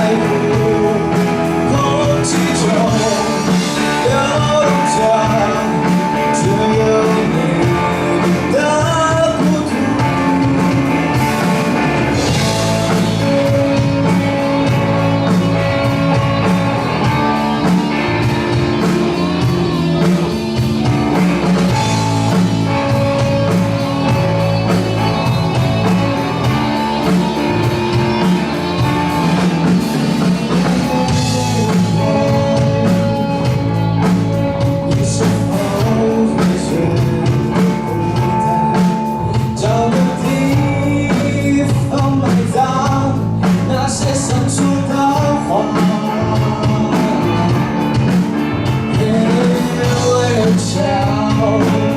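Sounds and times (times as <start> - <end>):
live rock band: 0.0 - 51.9
person singing: 0.0 - 51.9.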